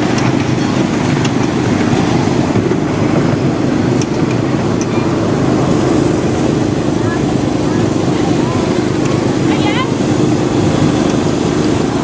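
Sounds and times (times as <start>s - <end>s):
miniature train rumbling on track: 0.0s - 12.0s.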